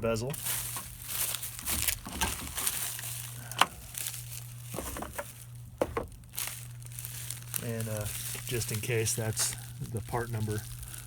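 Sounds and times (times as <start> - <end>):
packaging crinkling: 0.4 - 11.0.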